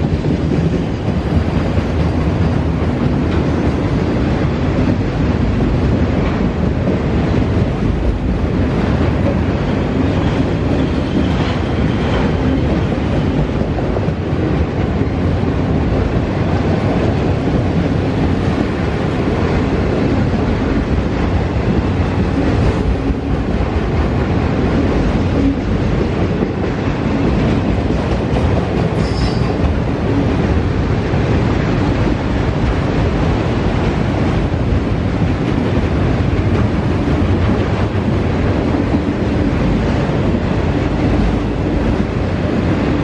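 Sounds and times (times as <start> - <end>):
clickety-clack of rails: 0.0 - 43.0
train wheels on rails: 0.0 - 43.0.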